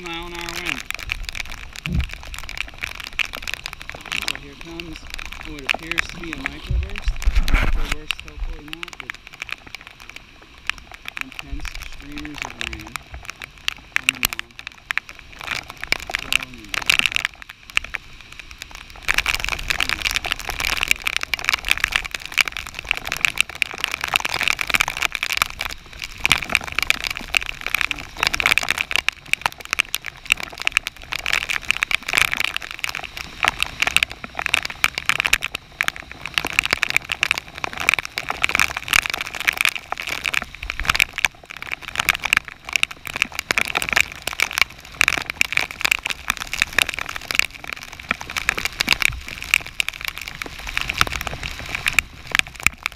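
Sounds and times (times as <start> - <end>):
heavy rain on water and deck: 0.0 - 52.9.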